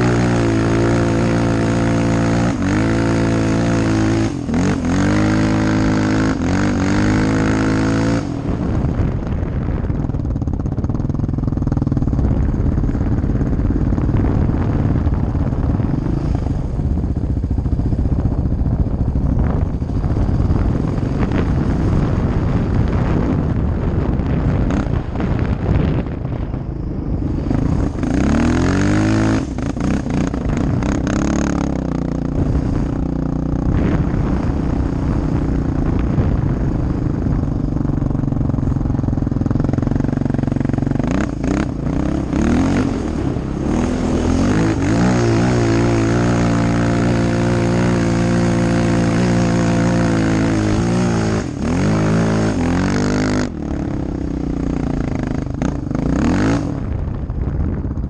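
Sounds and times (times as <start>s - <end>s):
quad engine revving: 0.0s - 26.5s, 27.2s - 57.1s
rough rushing noise: 0.0s - 58.0s.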